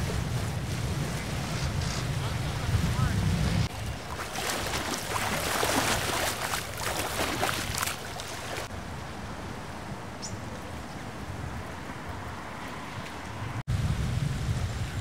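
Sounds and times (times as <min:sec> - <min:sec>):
lake water lapping at shore: 0:00.0 - 0:13.5.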